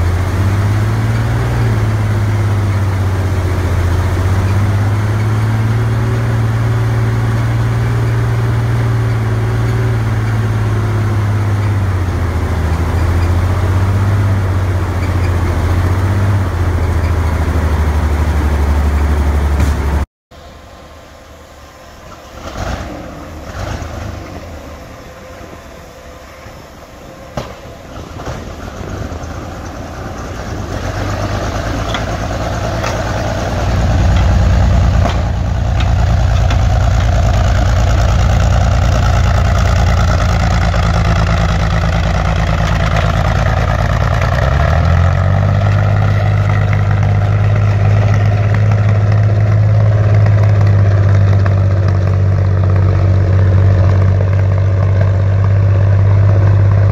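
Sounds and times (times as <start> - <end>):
tank engine running: 0.0 - 56.9.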